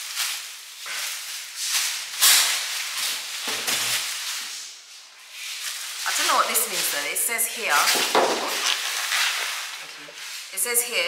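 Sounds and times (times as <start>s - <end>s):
plastic wrap crinkling: 0.0s - 11.0s.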